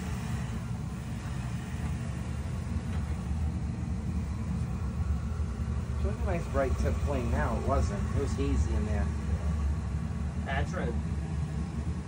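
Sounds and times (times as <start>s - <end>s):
oil burner rumbling: 0.0s - 12.0s.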